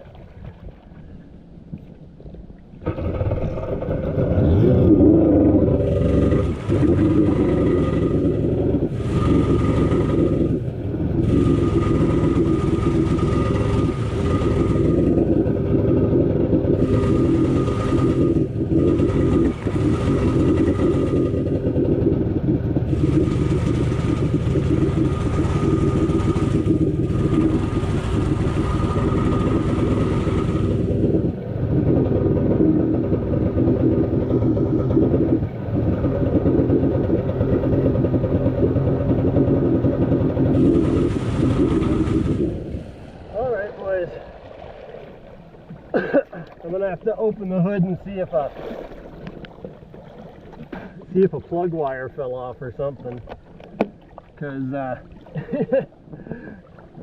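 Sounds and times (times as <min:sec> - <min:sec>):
jet ski engine running: 0:00.5 - 0:57.0.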